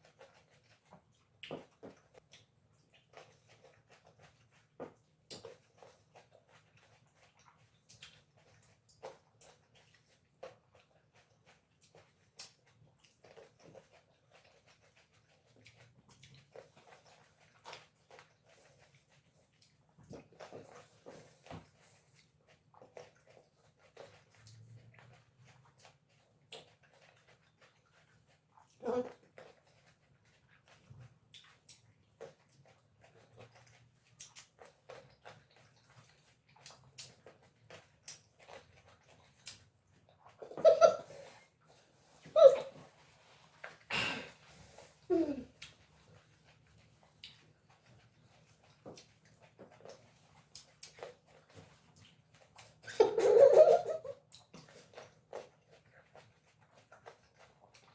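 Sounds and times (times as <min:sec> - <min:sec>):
wet chewing and mouth smacks: 0:00.0 - 0:53.2, 0:53.8 - 0:57.9.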